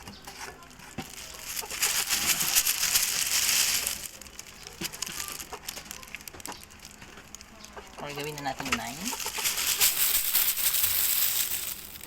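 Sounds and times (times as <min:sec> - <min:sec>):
rustling crinkling handling noise: 0:00.0 - 0:12.0.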